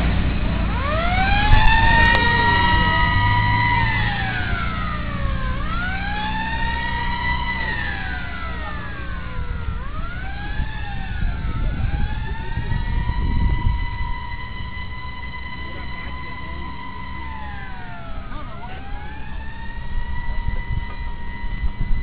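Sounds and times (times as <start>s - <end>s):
emergency siren wailing: 0.0s - 22.0s
faint second siren: 0.0s - 22.0s
low rumble: 0.0s - 22.0s.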